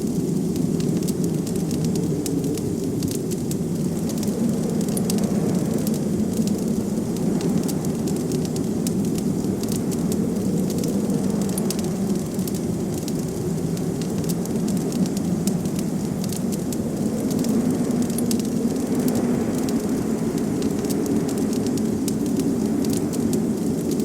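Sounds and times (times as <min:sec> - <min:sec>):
blizzard wind: 0:00.0 - 0:24.0
wood fire crackling: 0:00.0 - 0:24.0.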